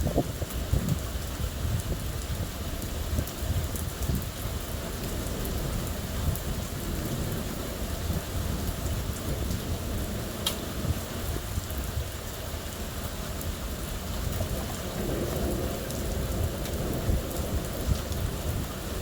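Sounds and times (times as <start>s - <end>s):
low thunder rumble: 0.0s - 12.2s, 13.5s - 19.0s
heavy rain: 0.0s - 19.0s.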